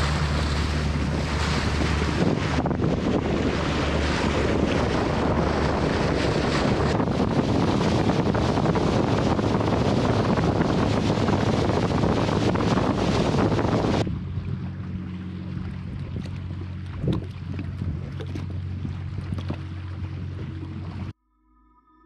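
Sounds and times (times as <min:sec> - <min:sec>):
wind buffeting microphone: 0:00.0 - 0:21.1
water rushing past boat: 0:00.0 - 0:21.2
low hum: 0:00.0 - 0:22.0.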